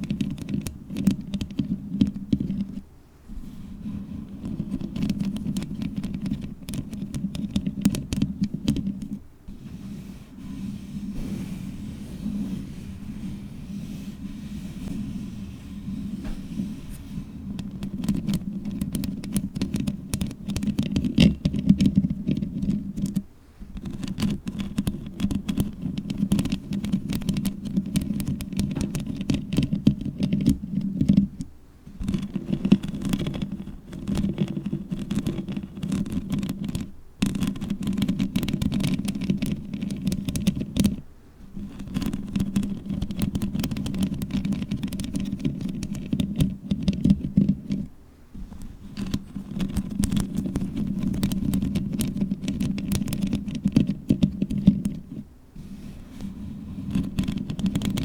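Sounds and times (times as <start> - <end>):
fingernails scratching microphone: 0.0 - 58.0.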